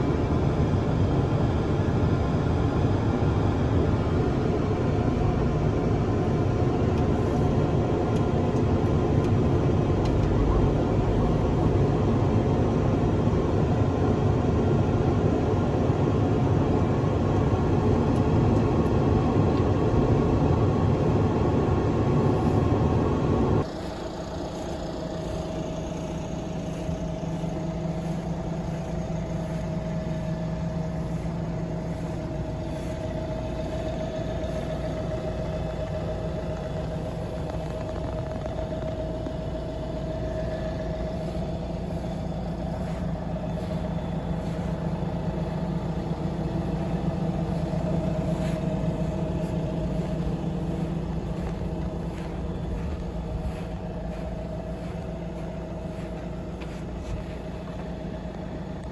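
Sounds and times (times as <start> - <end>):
tractor engine idling: 0.0 - 58.9.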